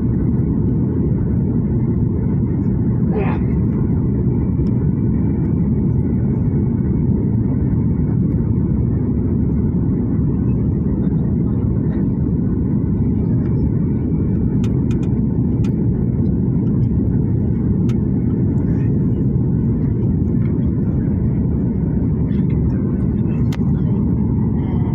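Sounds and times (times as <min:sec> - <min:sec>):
airplane engine rumble: 0:00.0 - 0:24.9.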